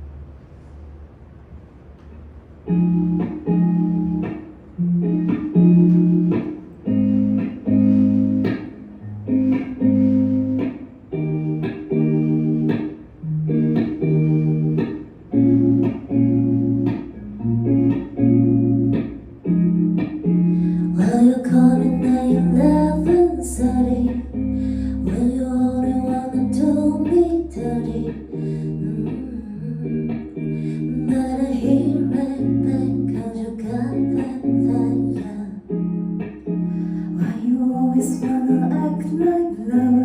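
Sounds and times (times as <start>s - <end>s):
bass guitar notes: 2.2s - 40.0s
electric guitar chord stabs: 2.6s - 40.0s.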